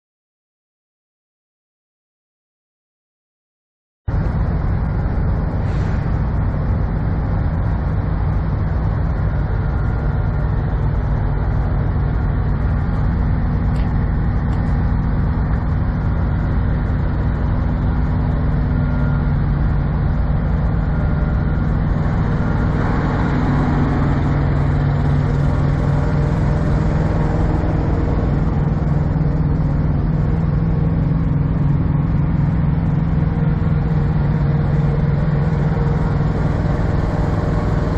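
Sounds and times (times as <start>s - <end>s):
diesel truck engines idling: 4.1s - 37.9s.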